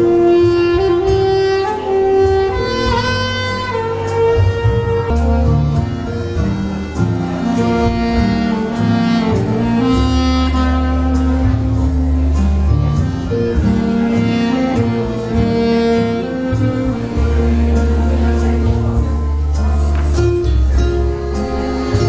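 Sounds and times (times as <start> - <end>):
deep bass line: 0.0 - 22.0
saxophone melody: 0.0 - 22.0
string-like backing: 0.0 - 22.0.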